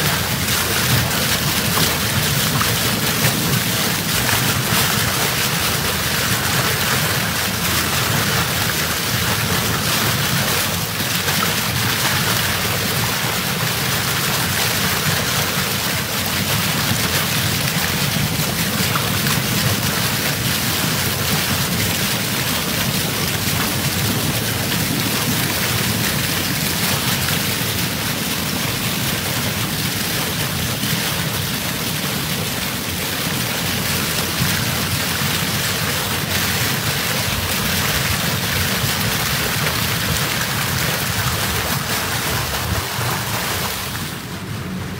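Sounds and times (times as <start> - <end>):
water rushing along boat hull: 0.0 - 44.9.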